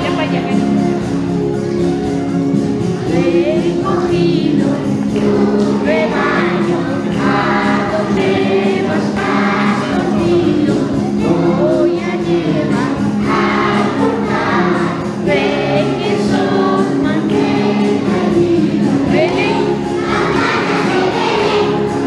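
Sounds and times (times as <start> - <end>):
instrumental accompaniment: 0.0 - 22.0
choir singing: 3.1 - 22.0.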